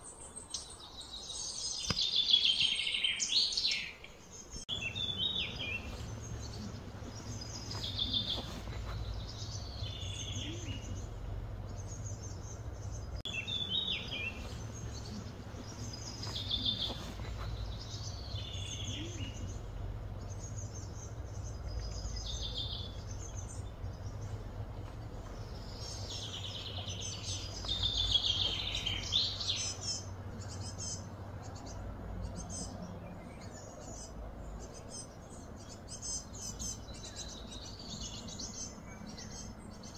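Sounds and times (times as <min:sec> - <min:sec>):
birds chirping: 0:00.0 - 0:39.9
steady low hum: 0:04.7 - 0:39.9.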